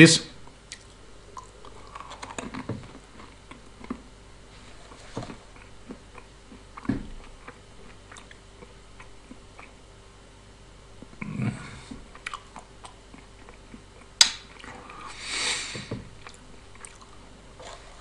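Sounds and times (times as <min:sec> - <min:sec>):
person chewing: 0:00.7 - 0:04.1, 0:04.7 - 0:09.8, 0:11.1 - 0:18.0.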